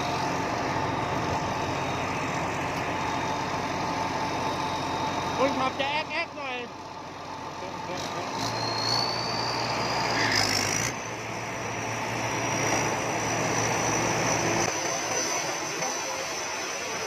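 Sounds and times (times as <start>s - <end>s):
combine harvester running: 0.0s - 17.0s
low engine drone: 0.0s - 17.0s.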